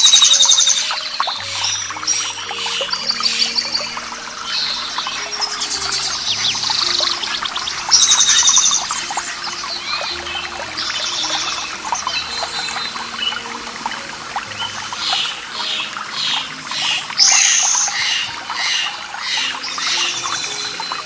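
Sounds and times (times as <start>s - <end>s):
small birds calling: 0.0s - 21.0s
trickling water: 0.0s - 21.0s.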